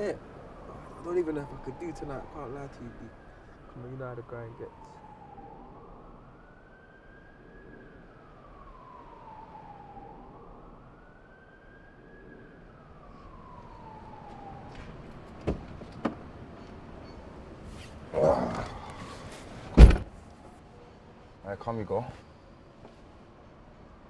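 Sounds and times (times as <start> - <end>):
emergency vehicle siren wailing: 0.0 - 24.0.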